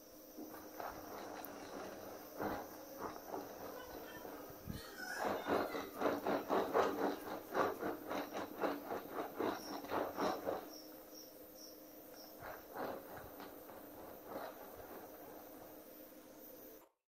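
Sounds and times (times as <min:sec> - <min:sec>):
scraper spreading frosting: 0:00.6 - 0:10.8, 0:12.3 - 0:16.8.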